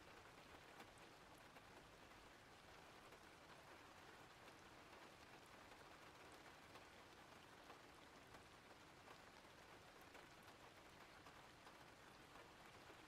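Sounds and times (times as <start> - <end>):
faint steady rain hiss: 0.0 - 13.0.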